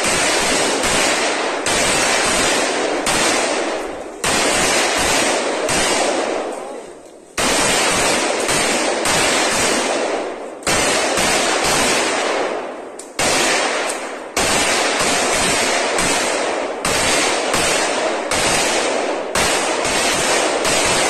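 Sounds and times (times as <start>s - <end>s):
automatic gunfire: 0.0s - 6.7s, 7.4s - 21.0s.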